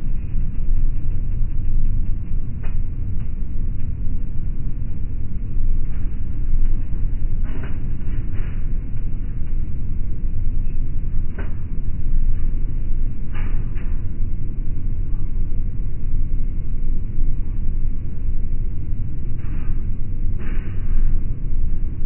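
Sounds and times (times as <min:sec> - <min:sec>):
jet airliner cabin roar: 0:00.0 - 0:22.0.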